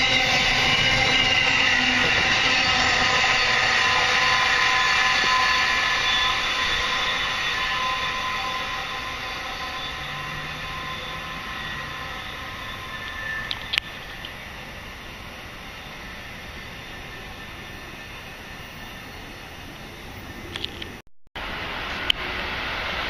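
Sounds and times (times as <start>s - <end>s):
electric train wheel and rail noise: 0.0s - 23.0s
high whining tones: 0.0s - 23.0s.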